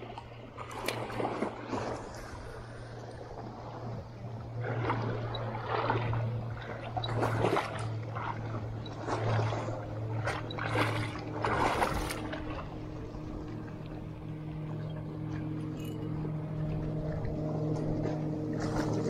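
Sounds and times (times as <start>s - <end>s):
small waves lapping over rocks: 0.0s - 14.1s, 16.7s - 19.0s
steady low hum: 0.0s - 19.0s.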